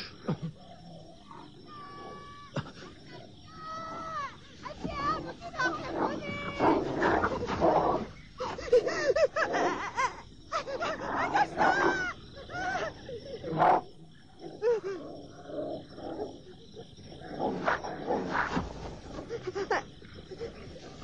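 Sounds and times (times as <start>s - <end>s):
wolves growling: 0.0s - 21.0s.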